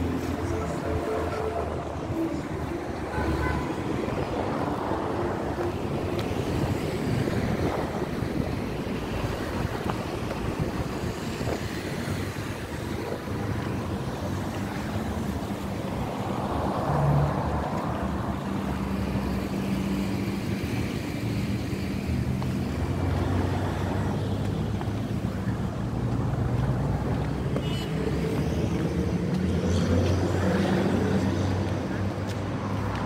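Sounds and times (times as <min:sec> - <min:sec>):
outdoor noise: 0:00.0 - 0:33.0.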